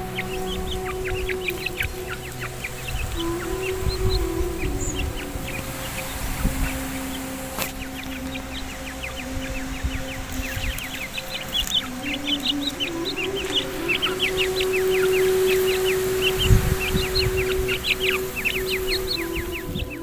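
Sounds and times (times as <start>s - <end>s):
flock of birds chirping: 0.0s - 20.0s
held musical tone: 0.0s - 20.0s.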